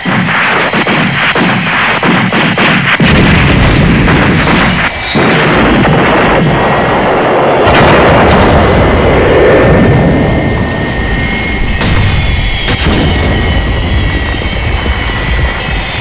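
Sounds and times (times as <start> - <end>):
loud explosion blasts: 0.0 - 16.0
rumble and crackle of fire: 0.0 - 16.0.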